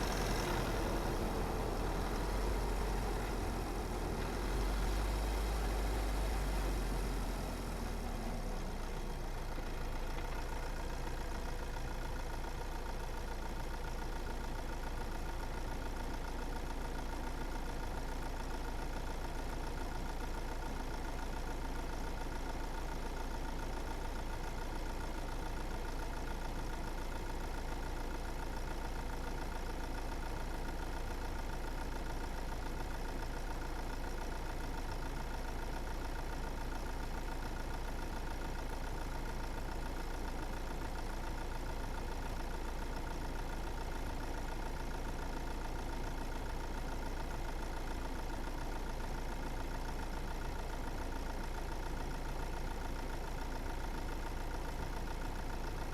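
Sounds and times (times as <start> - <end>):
car engine: 0.0 - 55.9
road noise while driving: 0.0 - 55.9.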